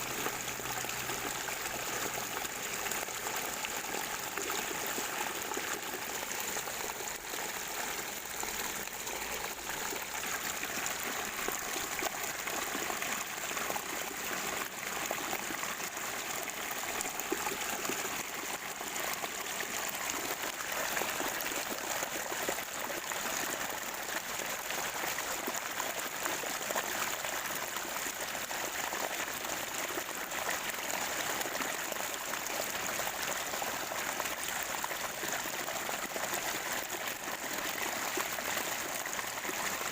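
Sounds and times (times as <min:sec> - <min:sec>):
spring water gurgling: 0:00.0 - 0:39.9.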